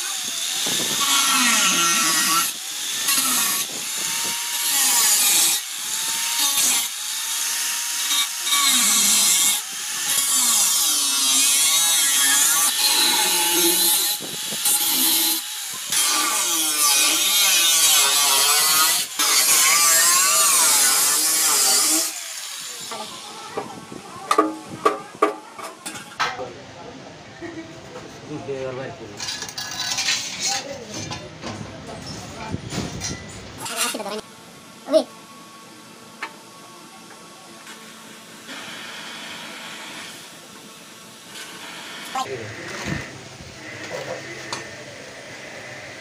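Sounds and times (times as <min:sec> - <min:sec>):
angle grinder cutting sheet metal: 0:00.0 - 0:26.2, 0:29.2 - 0:31.2, 0:33.0 - 0:34.2, 0:37.6 - 0:40.4, 0:41.3 - 0:46.0.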